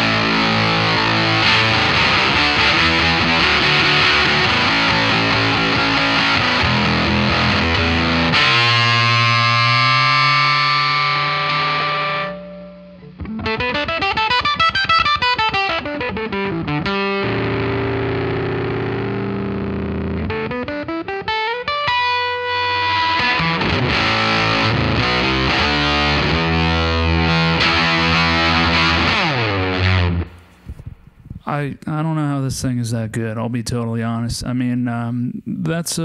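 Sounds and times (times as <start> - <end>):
electric guitar with fuzz tone: 0.0 - 31.4.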